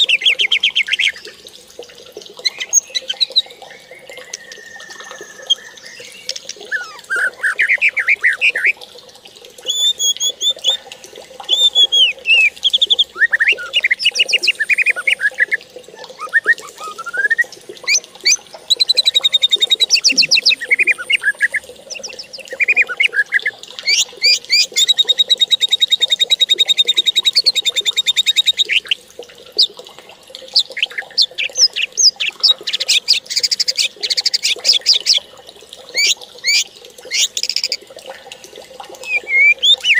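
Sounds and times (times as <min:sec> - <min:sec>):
birdsong with trills: 0:02.4 - 0:08.7, 0:09.6 - 0:29.0, 0:30.5 - 0:35.2, 0:35.9 - 0:37.8, 0:39.0 - 0:39.9.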